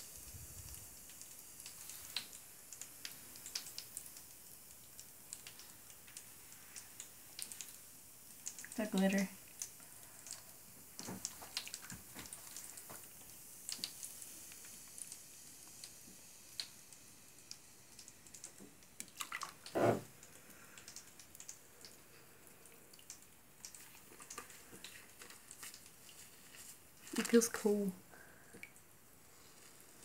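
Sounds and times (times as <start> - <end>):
bath bomb fizzing: 0.0 - 30.0
small crackles and pops: 0.0 - 30.0.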